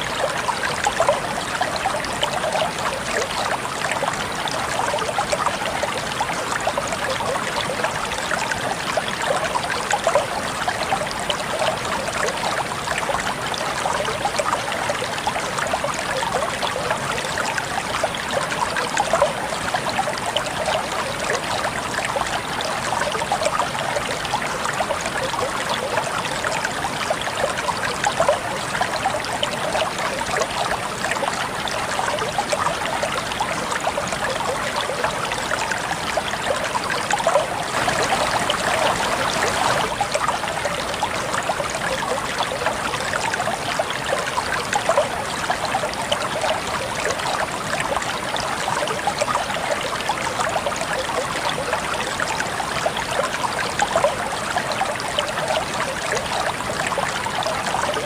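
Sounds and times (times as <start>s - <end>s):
stream babbling over stones: 0.0s - 58.0s.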